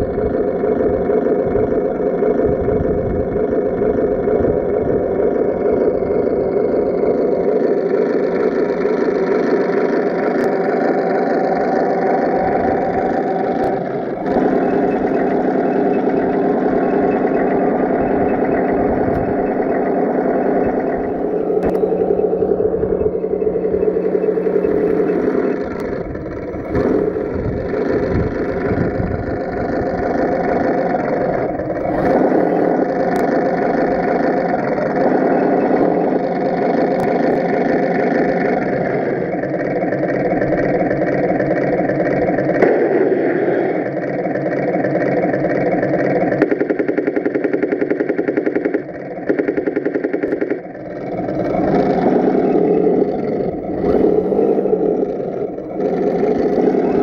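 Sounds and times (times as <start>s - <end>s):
model tank engine sound: 0.0s - 57.0s
whir and clatter of tracks: 0.0s - 57.0s.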